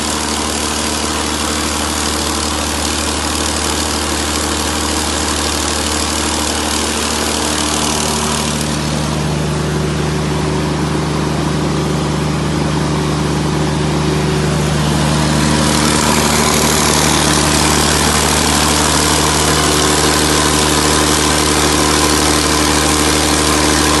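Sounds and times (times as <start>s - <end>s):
diesel generator humming: 0.0s - 24.0s.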